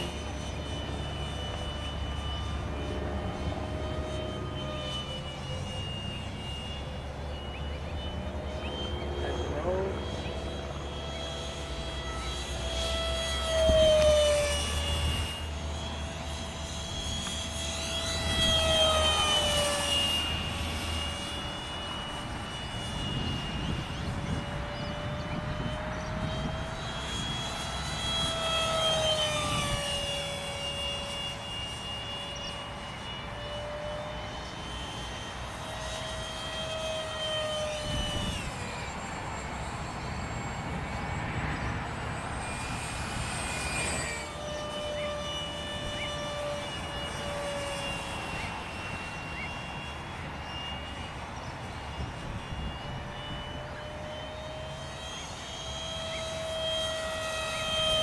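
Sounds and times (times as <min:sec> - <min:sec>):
electric ducted fan jet whining: 0:00.0 - 0:58.0.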